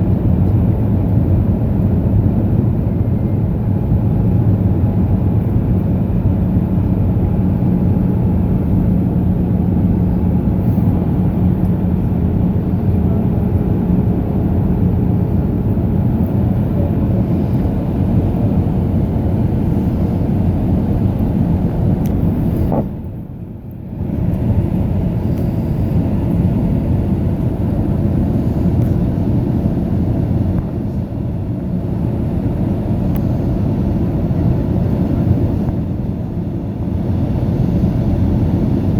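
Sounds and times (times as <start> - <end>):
aircraft cabin engine drone: 0.0 - 38.9.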